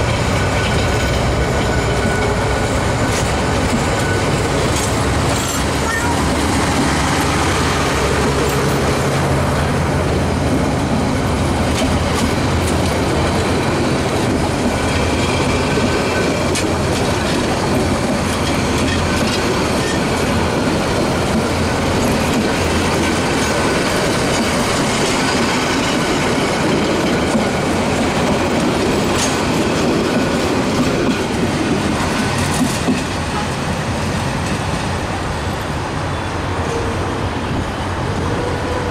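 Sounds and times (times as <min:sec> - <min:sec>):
rail joint clicks: 0:00.0 - 0:38.9
train wheels rumbling on track: 0:00.0 - 0:38.9.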